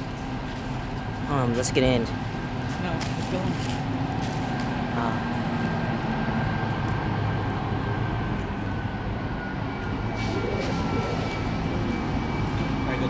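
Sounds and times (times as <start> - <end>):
diesel locomotive engine rumble: 0.0 - 13.0
train wheel noise: 0.0 - 13.0.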